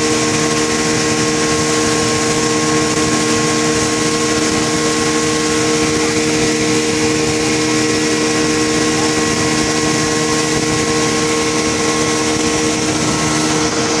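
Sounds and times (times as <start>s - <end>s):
boat engine humming: 0.0s - 14.0s
water splashing along hull: 0.0s - 14.0s.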